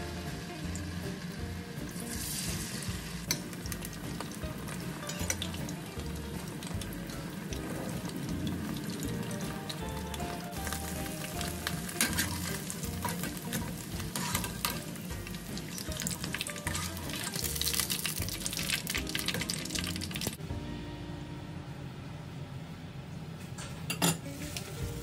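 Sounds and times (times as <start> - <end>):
deep-frying sizzle in oil: 0.0 - 20.4.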